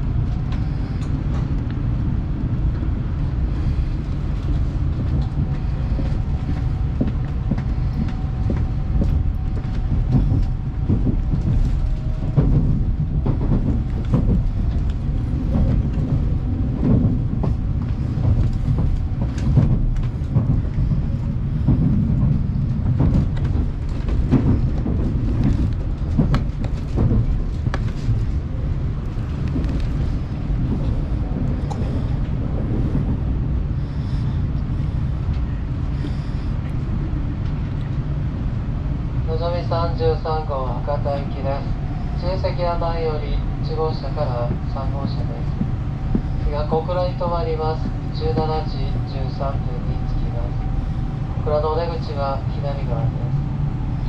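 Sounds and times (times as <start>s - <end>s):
faint train whine: 0.0s - 54.0s
train cabin rumble: 0.0s - 54.0s.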